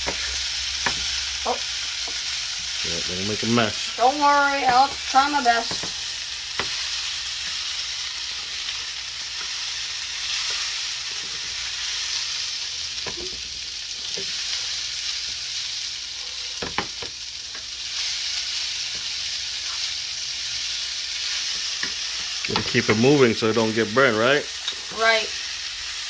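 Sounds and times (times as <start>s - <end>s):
rice sizzling in a hot pan: 0.0s - 26.0s.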